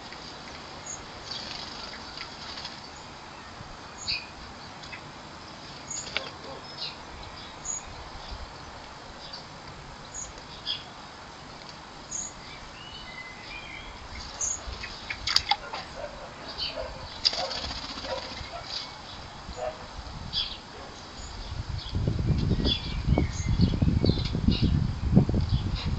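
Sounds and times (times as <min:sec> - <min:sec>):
birds chirping: 0:00.8 - 0:25.9.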